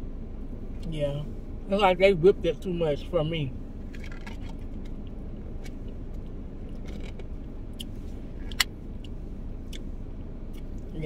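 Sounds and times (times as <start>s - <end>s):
car cabin low hum: 0.0s - 11.0s.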